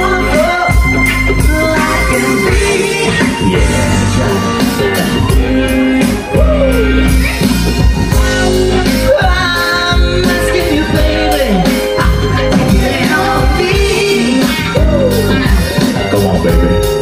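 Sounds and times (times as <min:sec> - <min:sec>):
bass guitar: 0:00.0 - 0:17.0
drums: 0:00.0 - 0:17.0
electric guitar: 0:00.0 - 0:17.0
keyboard: 0:00.0 - 0:17.0
person singing: 0:00.0 - 0:17.0.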